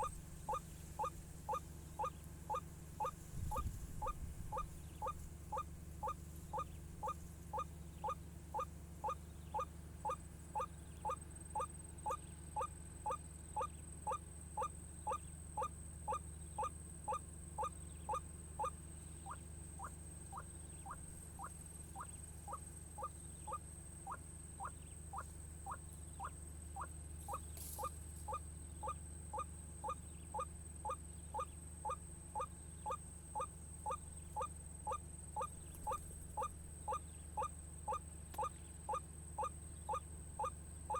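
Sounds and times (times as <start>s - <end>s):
waterhen call: 0.0s - 40.6s
steady low hum: 0.0s - 40.9s.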